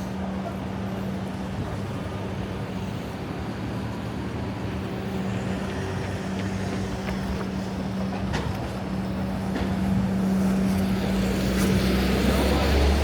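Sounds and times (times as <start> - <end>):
city street traffic: 0.0 - 13.0
low engine hum: 0.0 - 13.0.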